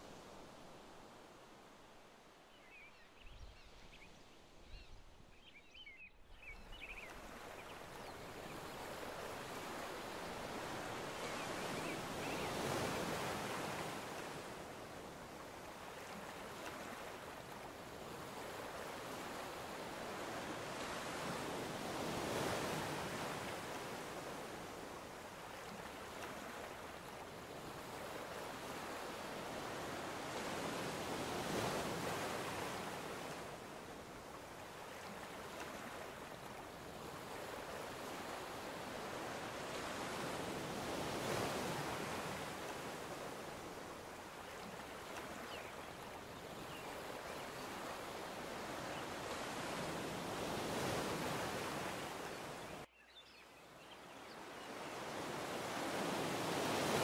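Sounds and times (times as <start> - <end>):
ocean surf washing ashore: 7.2 - 52.9, 54.9 - 57.0.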